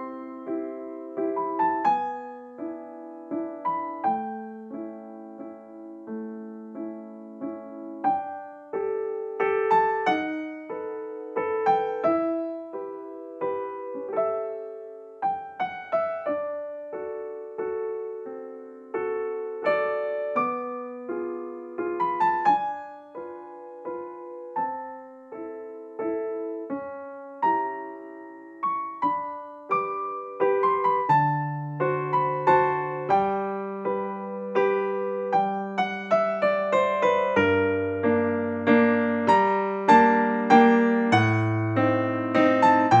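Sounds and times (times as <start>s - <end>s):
slow gentle piano music: 0.0s - 43.0s.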